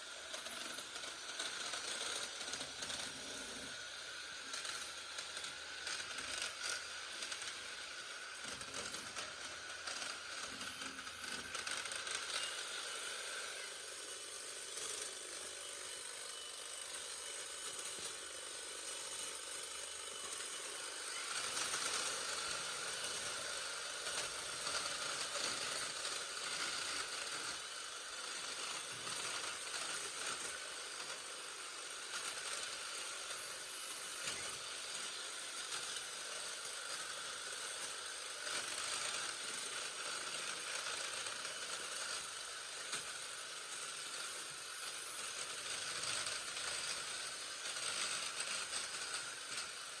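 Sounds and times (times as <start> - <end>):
hedge trimmer cutting branches: 0.0 - 50.0.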